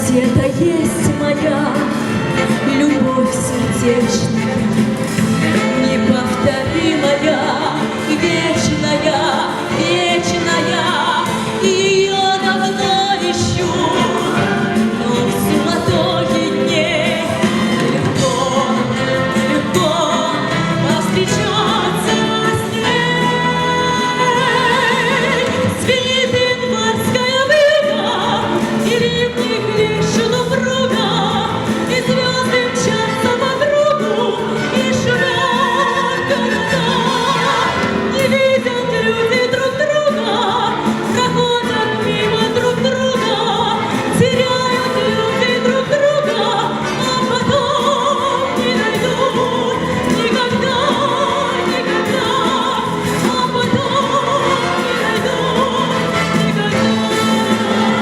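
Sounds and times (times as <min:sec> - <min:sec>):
instrumental accompaniment: 0:00.0 - 0:58.0
woman singing with vibrato: 0:00.0 - 0:58.0.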